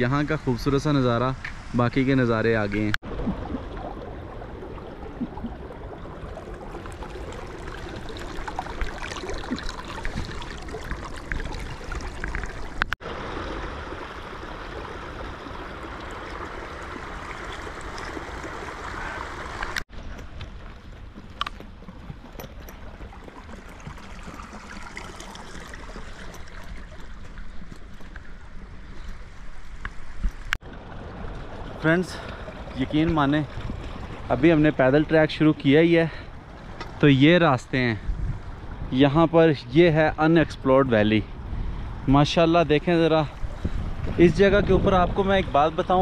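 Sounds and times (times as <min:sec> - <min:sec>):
stream trickling over stones: 0:00.6 - 0:40.5.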